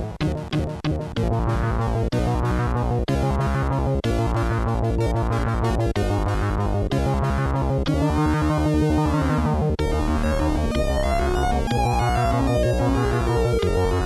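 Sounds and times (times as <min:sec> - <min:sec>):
chiptune synth music: 0:00.0 - 0:14.0.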